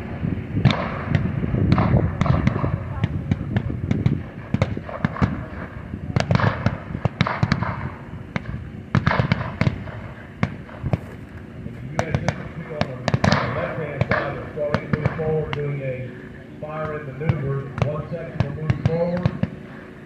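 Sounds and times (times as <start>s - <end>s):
low rumble: 0.0s - 20.0s
gunshots: 0.6s - 11.1s, 11.9s - 15.7s, 16.7s - 19.7s.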